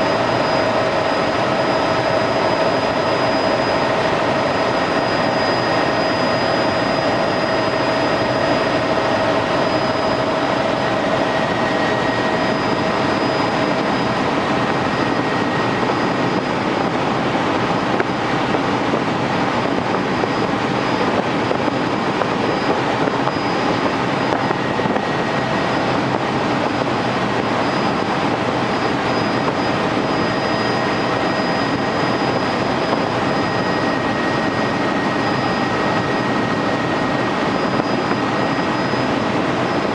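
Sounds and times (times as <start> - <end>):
helicopter cabin engine and rotor noise: 0.0 - 39.9
high whining tones: 0.0 - 39.9.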